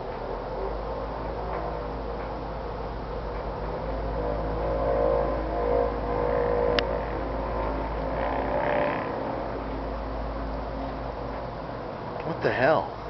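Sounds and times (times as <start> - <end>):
mechanical humming drone: 0.0 - 13.0.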